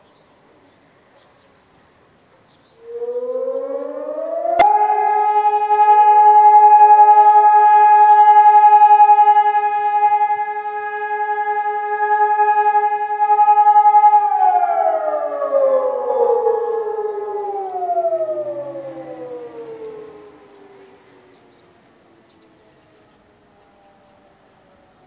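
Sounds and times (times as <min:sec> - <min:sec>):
electronic sirens: 0:02.8 - 0:25.0
motor siren: 0:02.8 - 0:25.0.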